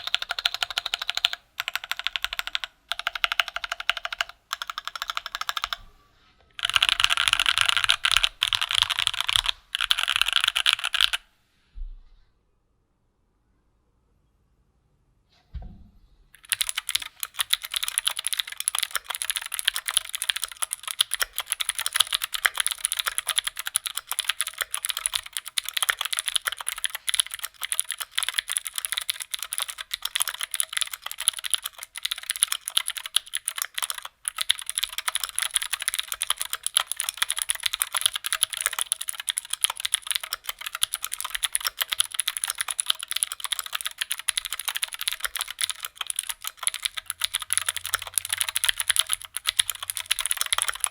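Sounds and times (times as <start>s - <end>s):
clicky mechanical keyboard typing: 0.0s - 5.8s, 6.6s - 11.2s, 16.4s - 50.9s.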